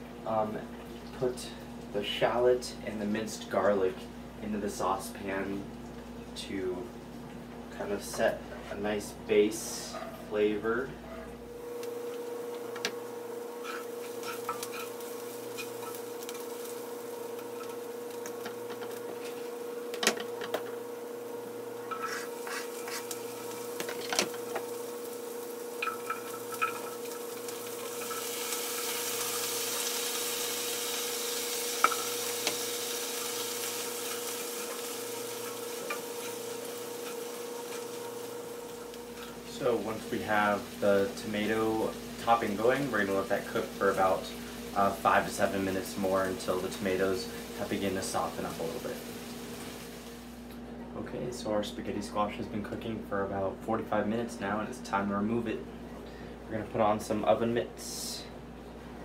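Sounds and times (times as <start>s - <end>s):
steady hum: 0.0s - 59.0s
food sizzling in a pan: 3.1s - 50.5s.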